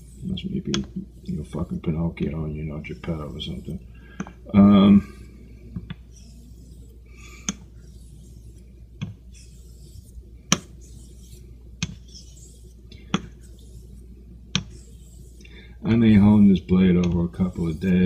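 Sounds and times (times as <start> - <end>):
razor scraping on whetstone: 0.0 - 3.8, 6.0 - 18.0.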